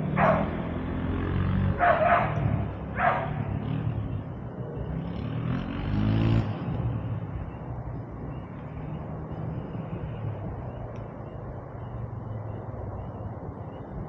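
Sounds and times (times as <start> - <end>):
quad bike engine idling and revving: 0.0 - 13.8.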